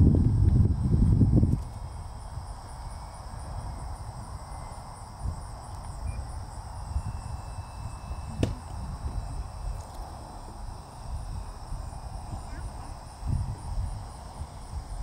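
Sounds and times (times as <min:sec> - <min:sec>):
wind buffeting microphone: 0:00.0 - 0:15.0
insects trilling: 0:00.6 - 0:15.0.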